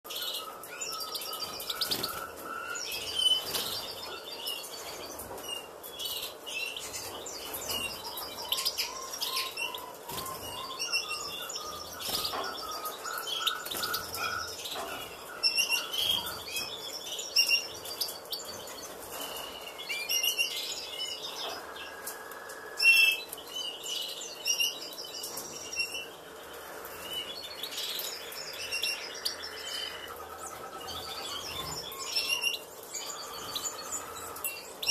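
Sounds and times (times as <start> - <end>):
cage birds chirping: 0.0 - 34.9.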